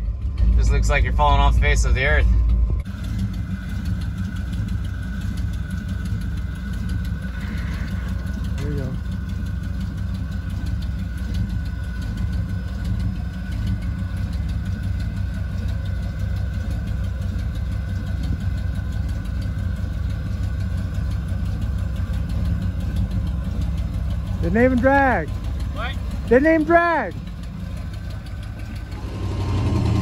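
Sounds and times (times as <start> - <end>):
truck engine running low: 0.0 - 30.0.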